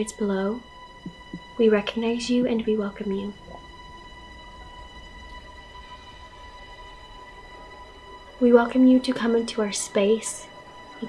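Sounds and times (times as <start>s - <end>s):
sustained drone music: 0.0s - 11.0s.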